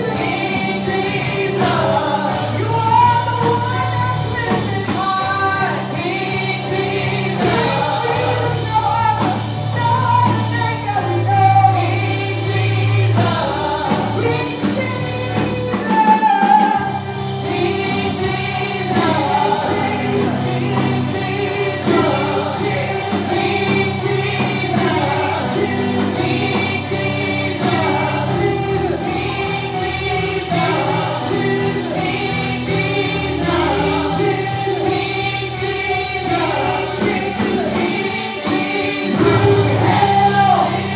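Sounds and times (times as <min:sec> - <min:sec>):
band with bass notes: 0:00.0 - 0:40.9
choir singing: 0:00.0 - 0:40.9.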